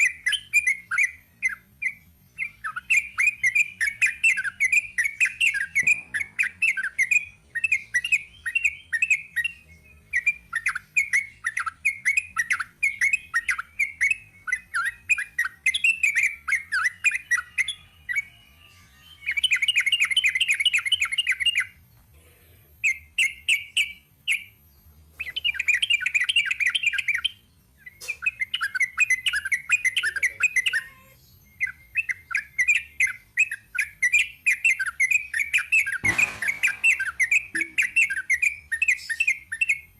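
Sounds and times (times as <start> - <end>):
bulbul chattering song: 0.0 - 21.8, 25.2 - 39.9.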